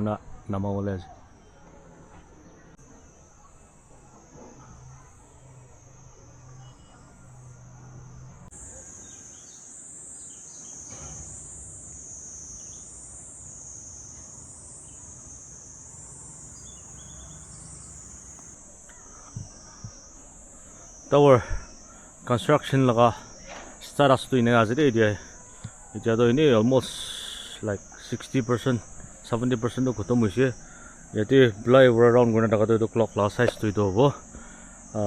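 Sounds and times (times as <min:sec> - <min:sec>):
faint low background noise: 0:00.0 - 0:35.0
insects chirring: 0:00.0 - 0:35.0.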